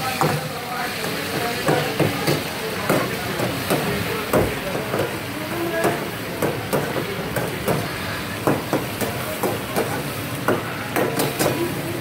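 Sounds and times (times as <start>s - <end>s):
gas burner flame: 0.0s - 12.0s
sizzling oil: 0.0s - 12.0s.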